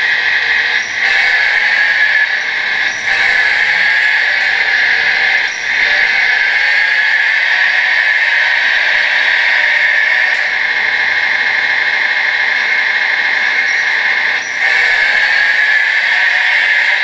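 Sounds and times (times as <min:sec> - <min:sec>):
toy bulldozer motors whirring: 0:00.0 - 0:17.0.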